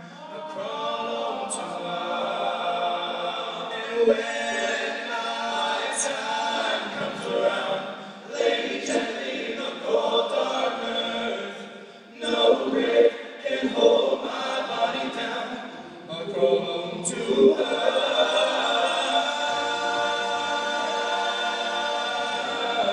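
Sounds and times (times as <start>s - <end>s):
men's choir singing harmony: 0.0s - 22.9s.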